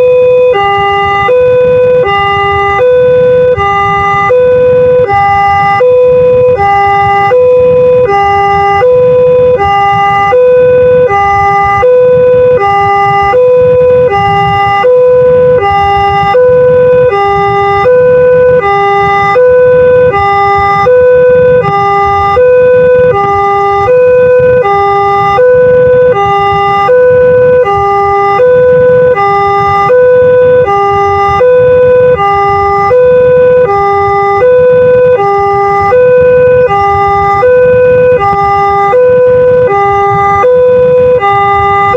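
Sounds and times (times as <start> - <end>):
level crossing two-tone siren: 0.0 - 41.9.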